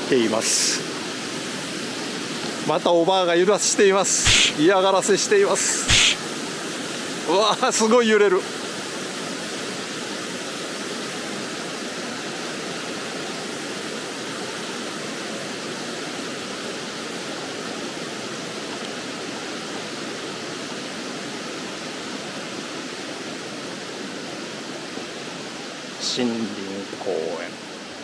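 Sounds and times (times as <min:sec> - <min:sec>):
rushing stream water: 0:00.0 - 0:28.0.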